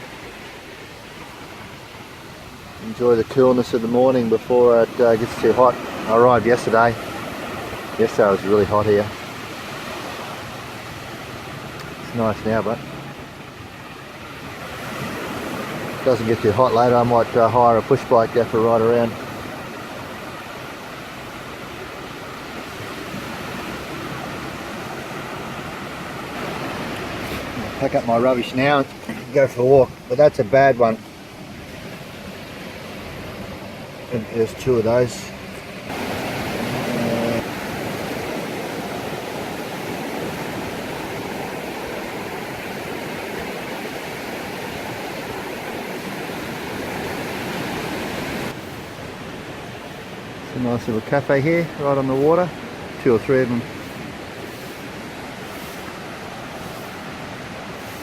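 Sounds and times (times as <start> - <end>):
surf washing onto beach: 0.0 - 58.0.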